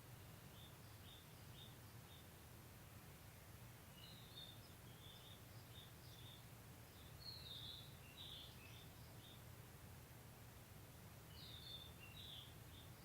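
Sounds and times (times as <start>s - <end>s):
birds chirping: 0.1s - 9.5s, 11.2s - 13.0s.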